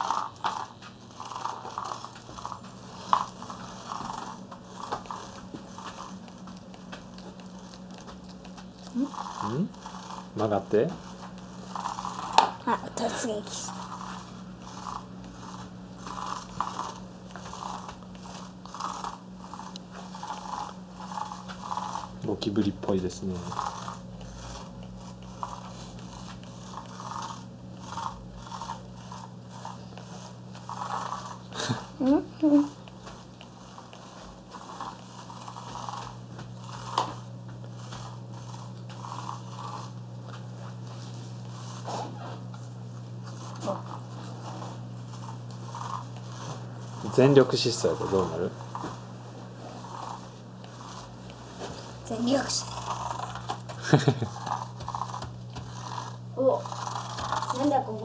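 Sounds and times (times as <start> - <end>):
steady low motor hum: 0.0 - 58.0
toy car scratching over carpet: 0.0 - 58.0.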